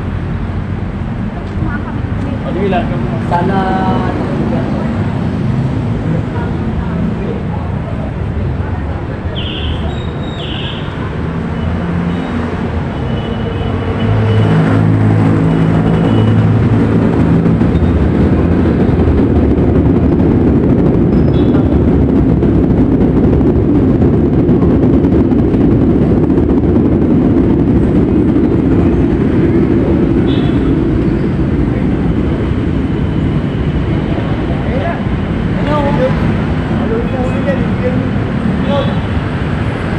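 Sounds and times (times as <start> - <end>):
heavy engine passing: 0.0 - 39.9
street traffic drone: 0.0 - 39.9.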